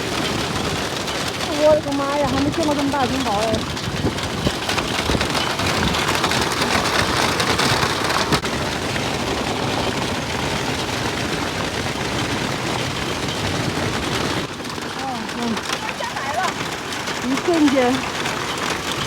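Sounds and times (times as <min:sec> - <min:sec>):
hailstones pelting down: 0:00.0 - 0:19.0.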